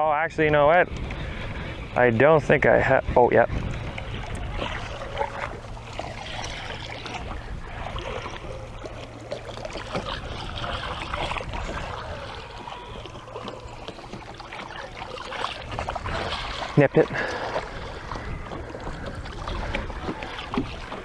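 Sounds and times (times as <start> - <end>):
low hum: 0.0 - 21.0
water lapping against boat hull: 0.0 - 21.0.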